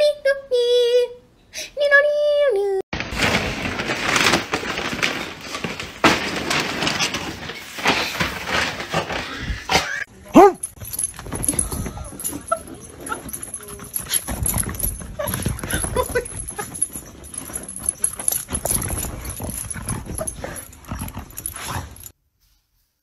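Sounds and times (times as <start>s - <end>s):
paw thumps and scrabbling: 3.1s - 10.0s, 10.6s - 22.1s.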